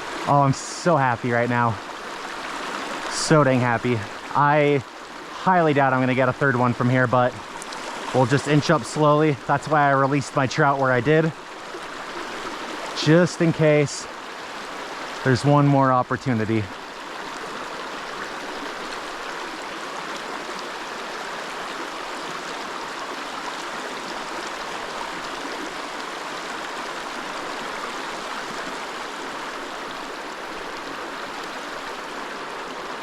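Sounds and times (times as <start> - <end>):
mountain creek flowing: 0.0 - 33.0.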